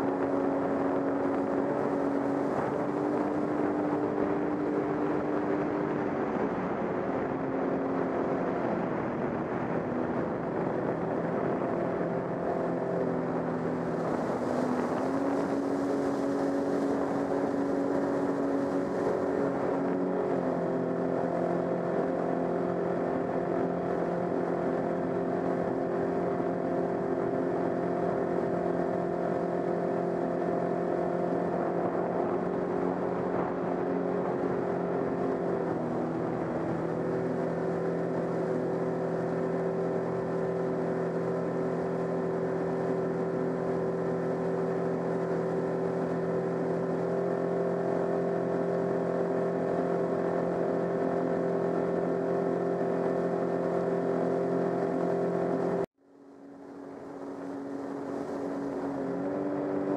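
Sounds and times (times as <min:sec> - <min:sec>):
jet ski engine running: 0:00.0 - 0:59.9
water rushing: 0:00.0 - 0:59.9.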